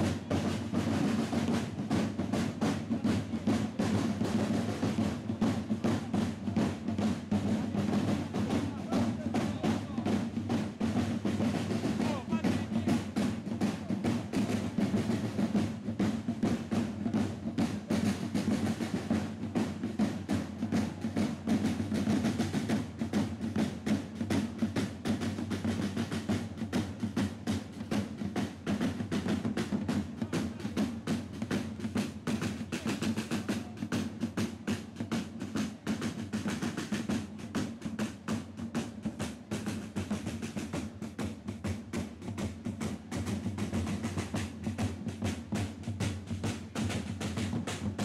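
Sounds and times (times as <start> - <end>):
side drums marching rhythm: 0.0 - 48.0.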